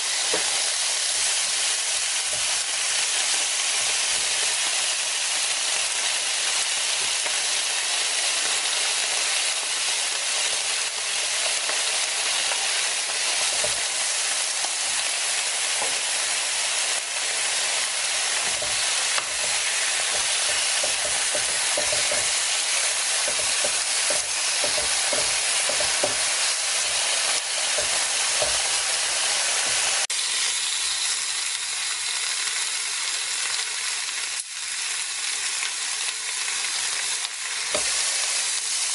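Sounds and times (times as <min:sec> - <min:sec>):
meat sizzling on a grill plate: 0:00.0 - 0:38.9.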